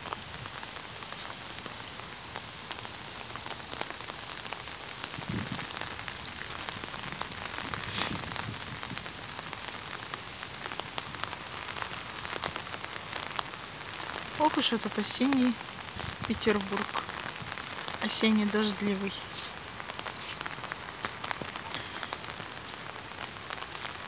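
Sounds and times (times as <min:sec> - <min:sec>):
rain pattering: 0:00.0 - 0:24.0.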